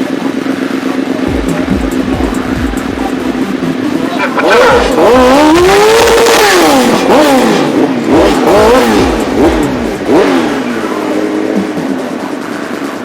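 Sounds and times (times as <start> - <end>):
motorcycle engines accelerating: 0.0 - 13.0.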